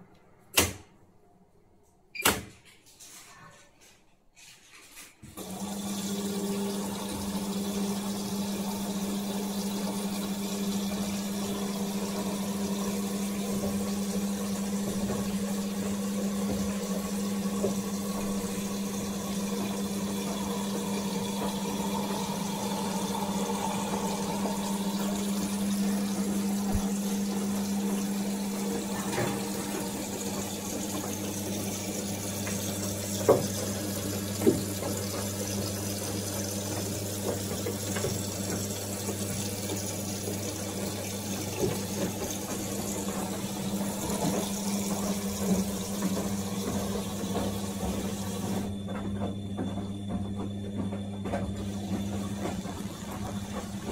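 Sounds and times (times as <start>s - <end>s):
washing machine hum: 0.0s - 53.9s
water running in machine: 5.4s - 53.9s.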